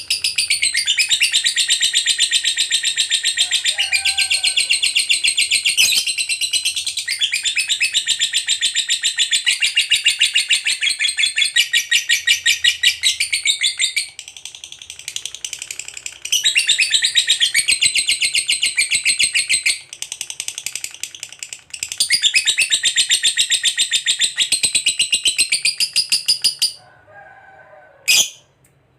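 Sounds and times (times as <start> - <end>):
lovebird chattering trill: 0.0 - 26.8.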